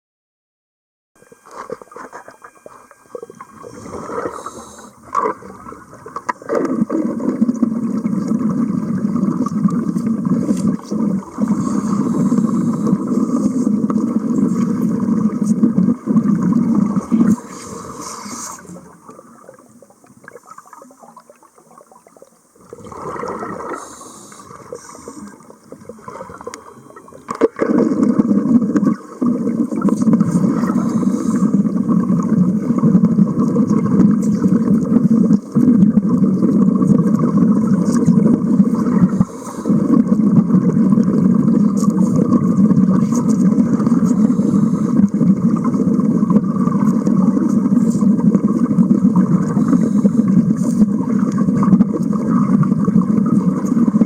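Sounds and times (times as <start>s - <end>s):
underwater welding arc bubbling: 1.2s - 54.0s.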